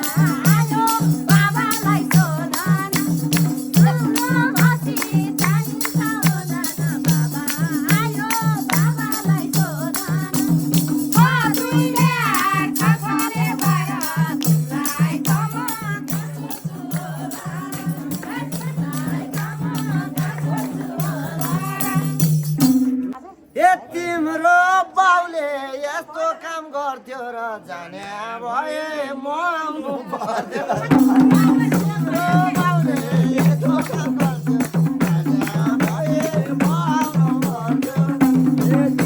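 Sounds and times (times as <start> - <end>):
drum beat: 0.0 - 23.2, 30.8 - 39.0
rattling percussion: 0.0 - 23.2, 30.8 - 39.0.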